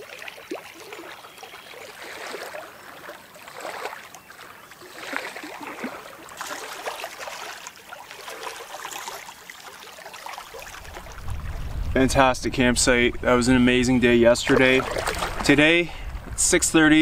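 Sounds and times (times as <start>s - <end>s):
small waves lapping on shore: 0.0s - 12.0s, 14.1s - 16.4s.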